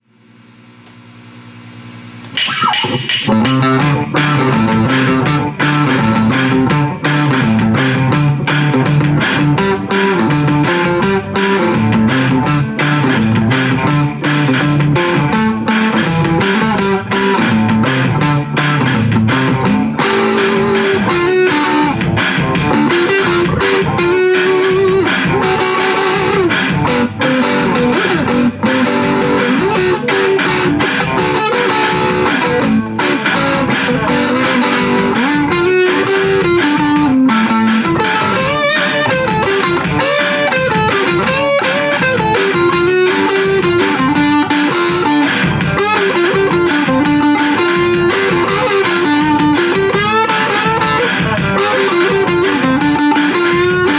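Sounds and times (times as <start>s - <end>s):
electric guitar melody and chords: 0.0s - 53.9s.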